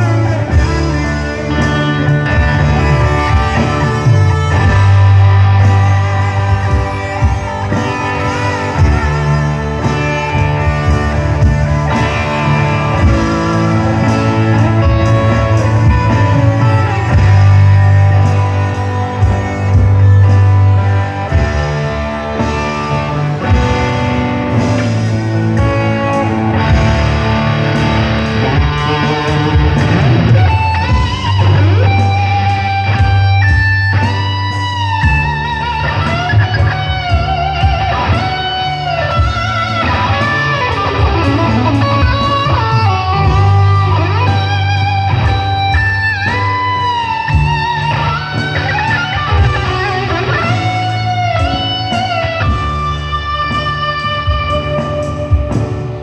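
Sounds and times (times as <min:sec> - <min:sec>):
electric bass notes: 0:00.0 - 0:56.0
electric guitar melody with bends: 0:00.0 - 0:56.0.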